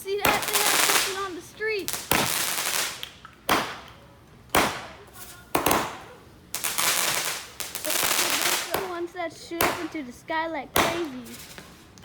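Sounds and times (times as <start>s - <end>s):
fireworks bangs with hiss: 0.0s - 10.2s, 10.8s - 12.0s.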